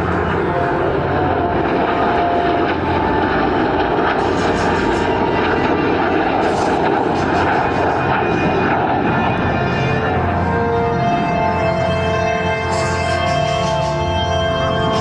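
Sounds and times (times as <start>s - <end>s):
aircraft flying past: 0.0s - 15.0s.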